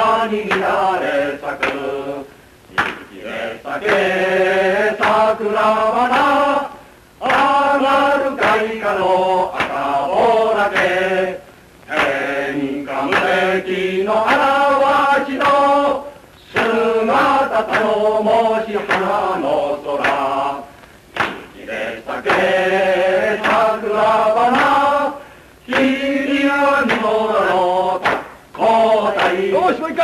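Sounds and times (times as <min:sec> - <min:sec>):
voices singing a military song: 0:00.0 - 0:30.0.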